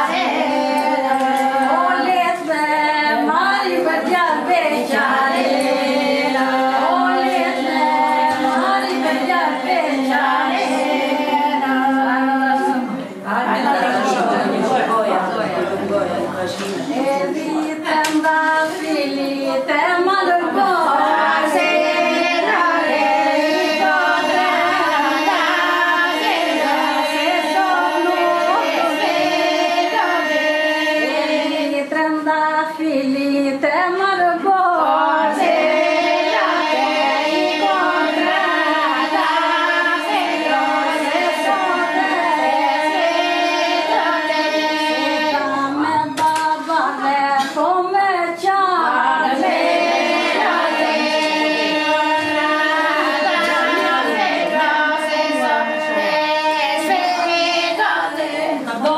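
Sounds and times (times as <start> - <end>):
women singing with drone: 0.0 - 58.9.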